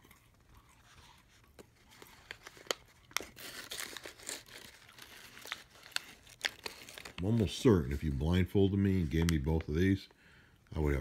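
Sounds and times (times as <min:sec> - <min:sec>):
plastic candy bag crinkling: 0:00.0 - 0:11.0.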